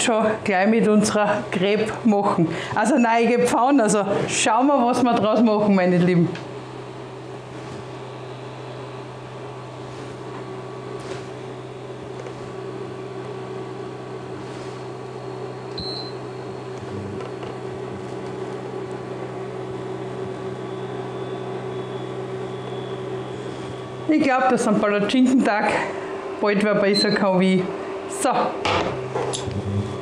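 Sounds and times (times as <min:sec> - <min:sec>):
electric hum with faint whir: 0:00.0 - 0:30.0.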